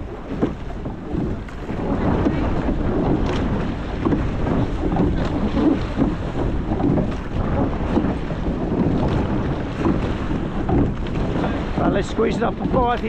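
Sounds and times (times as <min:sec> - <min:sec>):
knocks from boat: 0:00.0 - 0:13.0
water rushing along boat hull: 0:00.0 - 0:13.0
wind buffeting microphone: 0:00.0 - 0:13.0.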